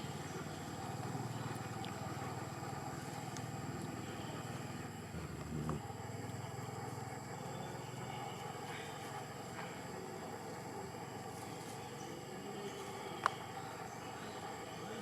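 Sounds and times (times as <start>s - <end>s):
motor engine droning: 0.0s - 15.0s.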